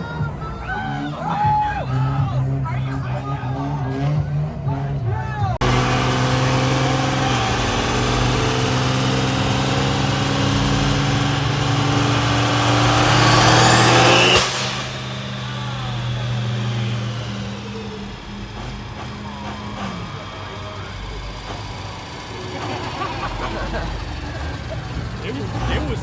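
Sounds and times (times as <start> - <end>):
diesel truck engine: 0.0 - 26.0.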